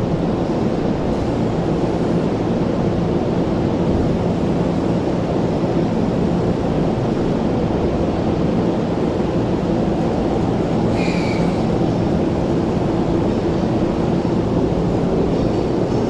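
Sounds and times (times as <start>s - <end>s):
train air conditioning hum: 0.0s - 16.0s.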